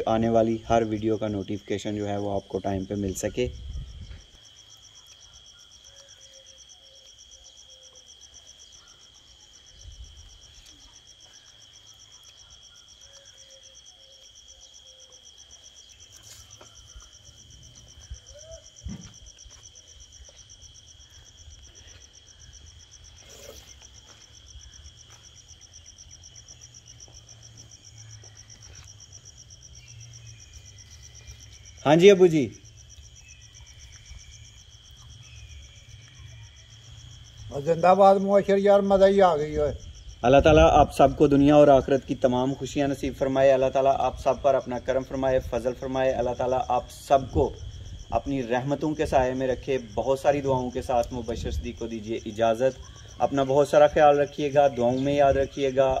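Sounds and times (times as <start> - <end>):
insect continuous whine: 0.0 - 56.0
insect fast pulsing trill: 0.0 - 56.0.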